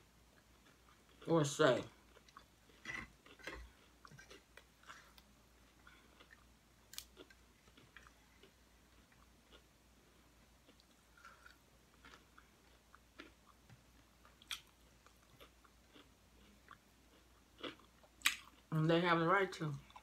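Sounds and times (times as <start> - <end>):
quiet chewing of chips: 0.3 - 18.8, 19.7 - 20.0.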